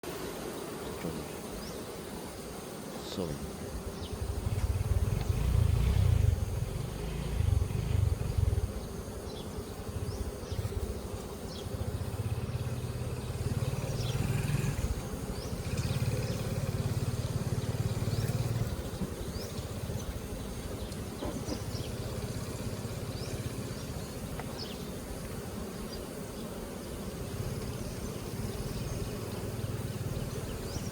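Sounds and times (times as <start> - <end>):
bees buzzing: 0.0 - 30.9.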